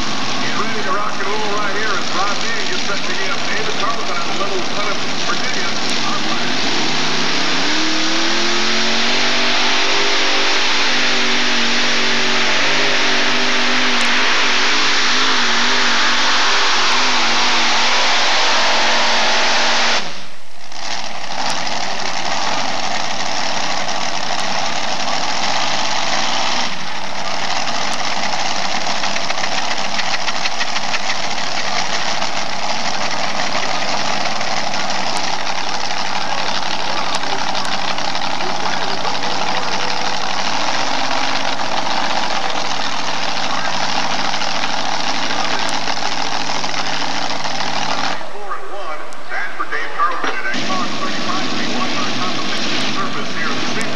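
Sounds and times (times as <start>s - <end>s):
tractor engine roaring: 0.0s - 53.9s.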